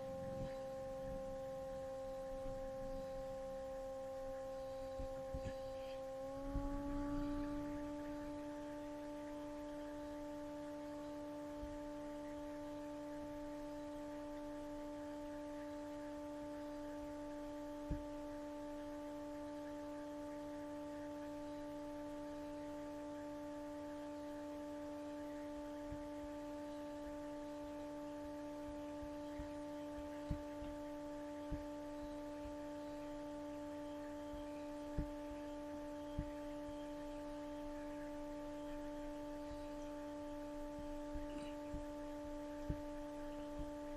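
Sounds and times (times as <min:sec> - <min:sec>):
steady pitched hum: 0:00.0 - 0:43.9.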